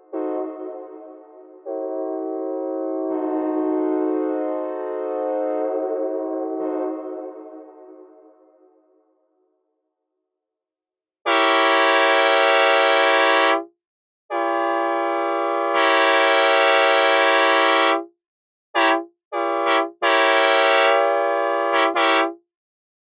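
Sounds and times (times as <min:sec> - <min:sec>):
train horn blasts: 0:00.0 - 0:08.6, 0:11.3 - 0:13.7, 0:14.3 - 0:18.1, 0:18.8 - 0:22.4.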